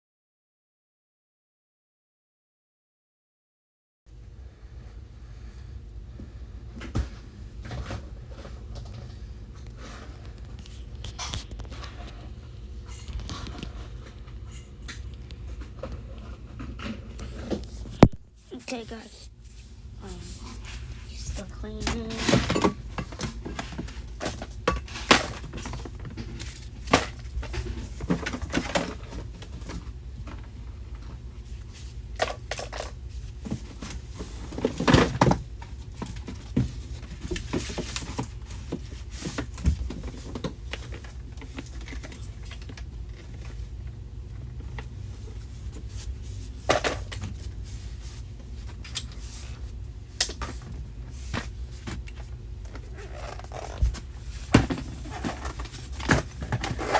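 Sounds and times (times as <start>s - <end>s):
steady low hum: 4.1s - 56.9s.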